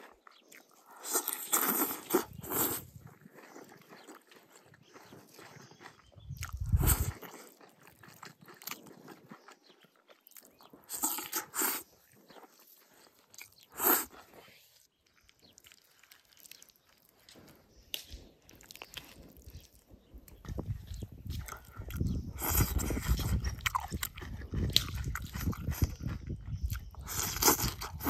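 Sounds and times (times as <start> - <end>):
chewing and crunching food: 0.0 - 28.0.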